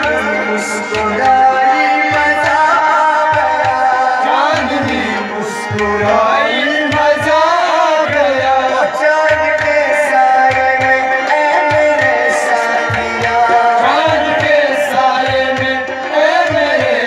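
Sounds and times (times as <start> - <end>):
hand drums beating: 0.0 - 17.0
harmonium chords: 0.0 - 17.0
man singing: 0.0 - 17.0.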